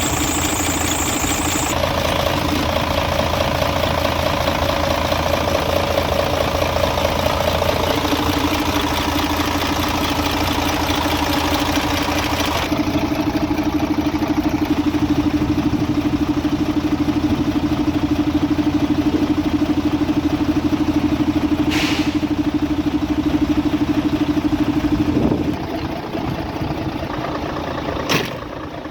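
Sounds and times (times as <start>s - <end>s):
diesel truck engine idling: 0.0s - 28.9s.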